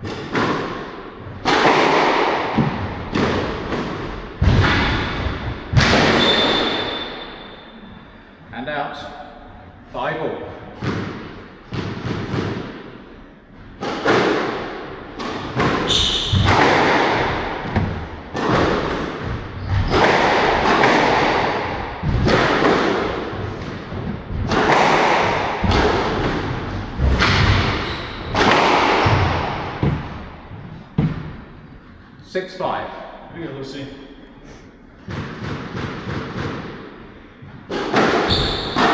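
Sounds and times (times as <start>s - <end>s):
squash ball thuds: 0.0s - 7.4s, 10.7s - 32.0s, 35.0s - 38.9s.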